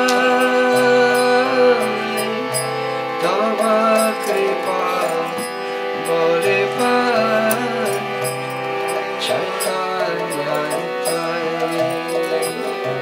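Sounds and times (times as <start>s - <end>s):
harmonium chords: 0.0s - 13.0s
man singing: 0.0s - 13.0s.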